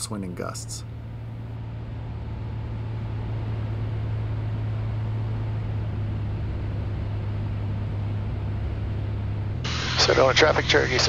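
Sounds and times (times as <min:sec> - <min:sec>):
airplane engine droning: 0:00.0 - 0:11.0.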